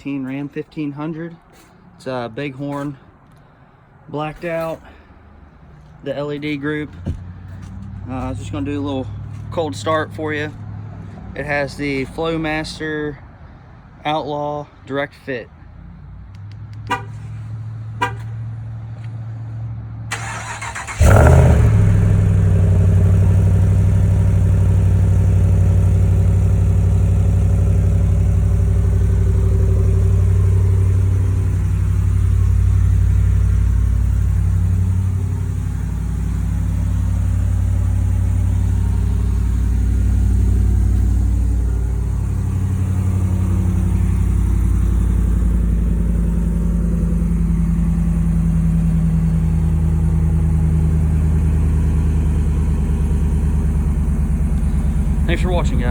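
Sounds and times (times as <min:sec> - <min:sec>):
truck engine starting and idling: 0:00.5 - 0:13.0, 0:20.0 - 0:55.9.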